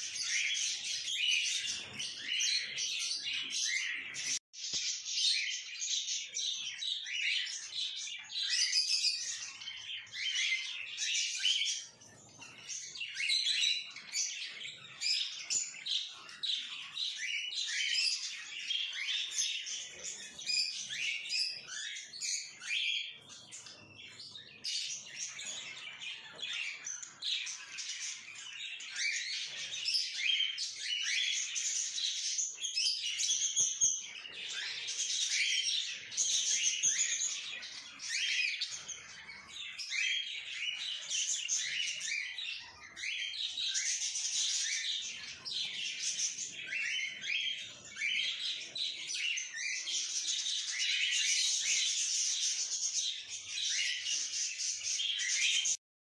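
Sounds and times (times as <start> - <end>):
small birds chirping and chattering: 0.0 - 55.8.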